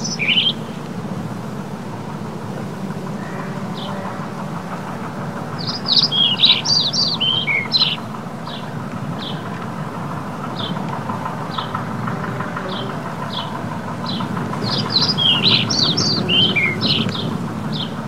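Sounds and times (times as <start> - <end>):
low background rumble: 0.0 - 18.0
small birds chirping: 0.0 - 18.0.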